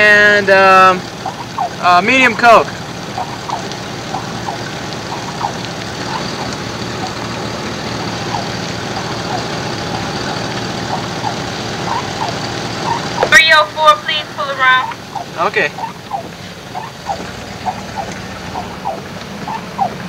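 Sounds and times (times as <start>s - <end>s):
distant voice: 0.0s - 20.0s
vehicle engine idling: 0.0s - 20.0s.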